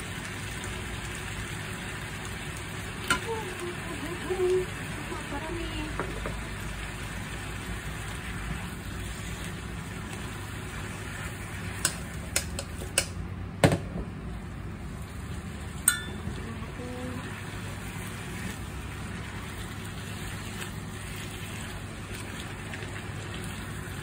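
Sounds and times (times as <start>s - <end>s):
greens sizzling in a pan: 0.0s - 13.4s, 14.2s - 24.0s.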